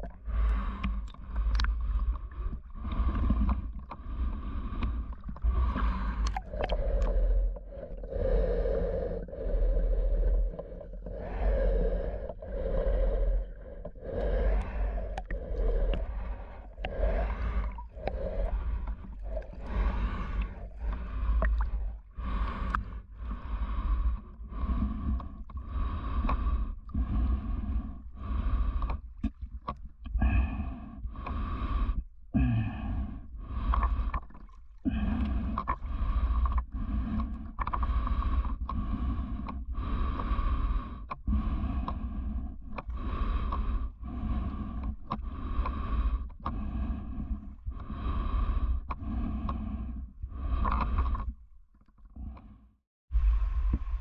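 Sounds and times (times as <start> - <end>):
heavy breathing through snorkel: 0.0 - 29.2, 30.1 - 51.4.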